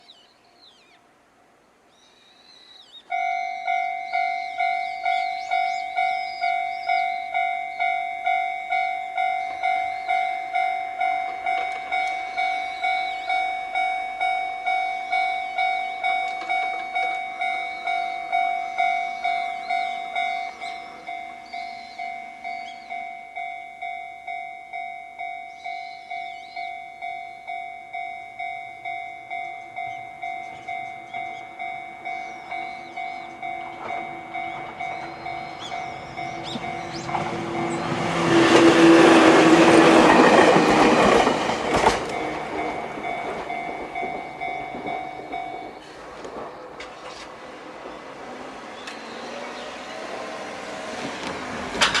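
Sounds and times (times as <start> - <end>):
level crossing electronic alarm: 3.0 - 46.0.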